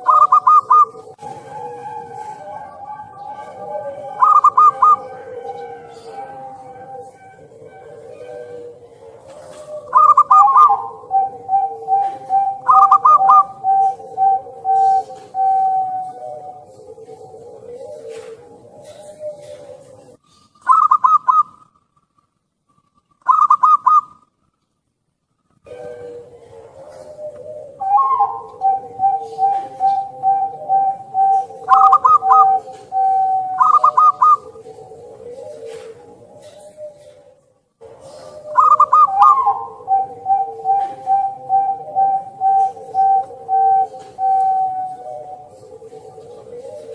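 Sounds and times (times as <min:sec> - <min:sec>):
dove cooing: 0:00.0 - 0:21.6, 0:23.2 - 0:24.2, 0:25.6 - 0:46.9.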